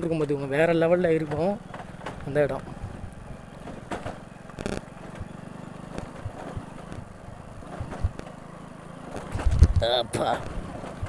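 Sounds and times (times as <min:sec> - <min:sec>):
knocks and rattles of bike: 0:00.0 - 0:11.0
motorcycle engine running: 0:00.0 - 0:11.0.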